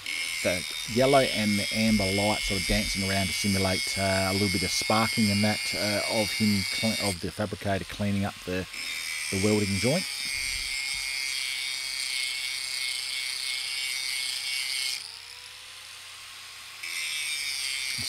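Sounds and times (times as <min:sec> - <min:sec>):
grinder grinding on metal: 0:00.0 - 0:18.0.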